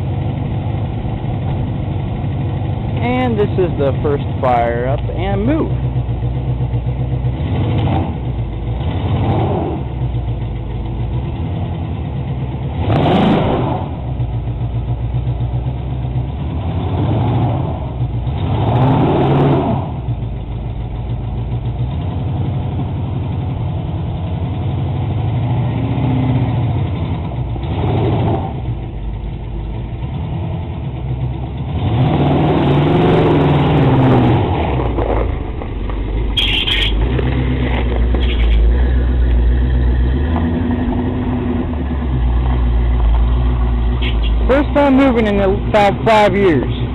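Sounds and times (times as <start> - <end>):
car engine idling: 0.0 - 46.9
engine throttle blips: 0.0 - 46.9.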